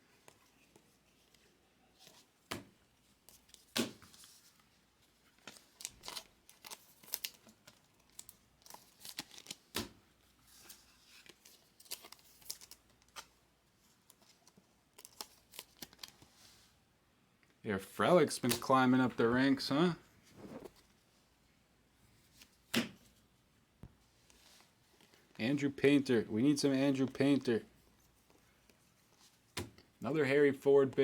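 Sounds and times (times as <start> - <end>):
trading cards and wrappers handled: 0.1 - 16.8, 18.2 - 21.1, 22.2 - 30.0.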